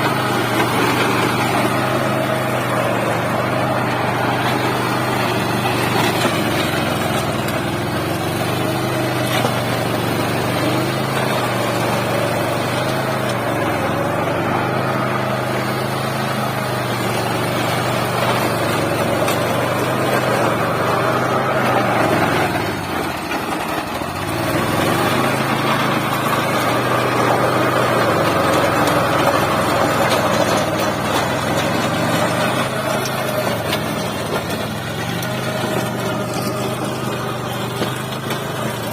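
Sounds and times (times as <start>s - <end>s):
small tractor engine running: 0.0s - 38.9s.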